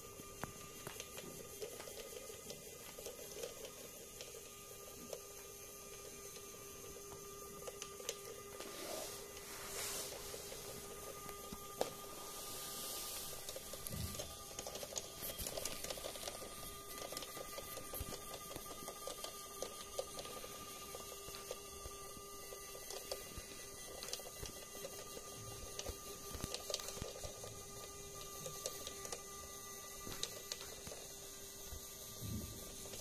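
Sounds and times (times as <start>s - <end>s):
small electric motor whine: 0.0s - 33.0s.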